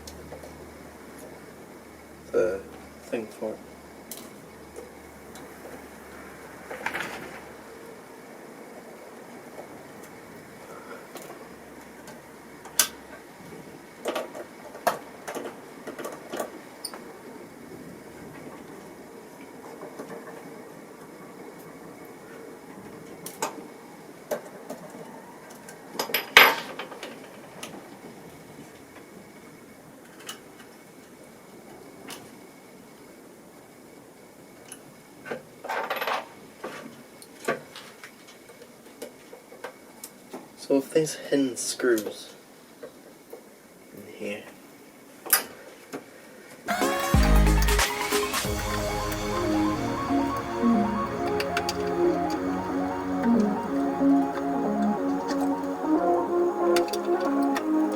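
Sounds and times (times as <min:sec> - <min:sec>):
low steady hiss: 0:00.0 - 0:24.5, 0:26.1 - 0:57.9.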